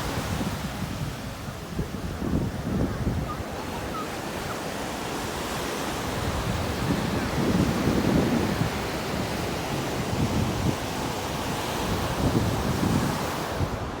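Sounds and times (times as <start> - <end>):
ocean surf washing onto beach: 0.0 - 14.0
wind buffeting microphone: 0.0 - 14.0.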